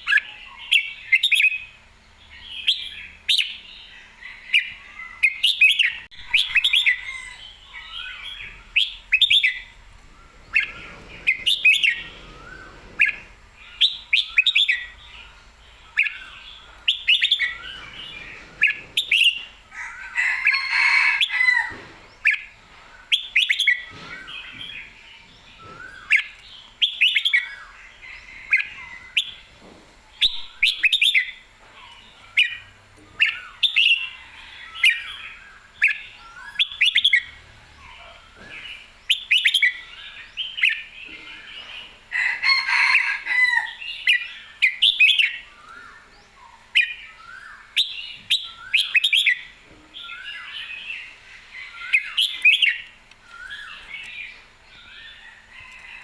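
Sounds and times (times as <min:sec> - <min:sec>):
bird singing warbled phrases: 0:00.0 - 0:29.5, 0:30.1 - 0:55.9.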